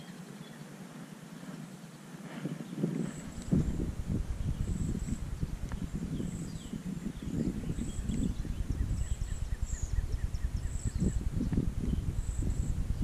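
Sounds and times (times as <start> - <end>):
small birds chirping: 0.0 - 13.0
wind rumbling on microphone: 0.6 - 13.0.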